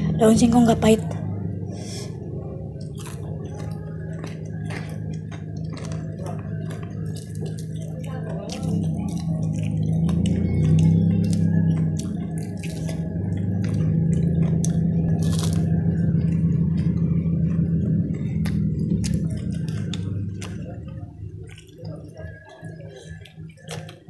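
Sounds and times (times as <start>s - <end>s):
low steady hum: 0.0s - 24.0s
crunchy chewing: 2.0s - 24.0s.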